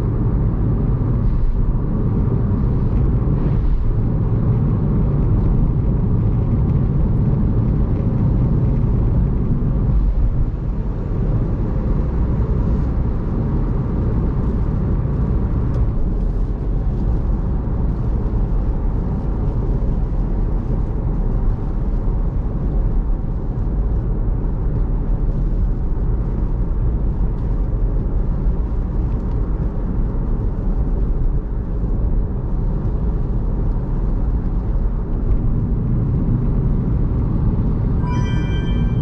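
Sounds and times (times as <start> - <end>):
car road rumble on wet road: 0.0 - 39.0.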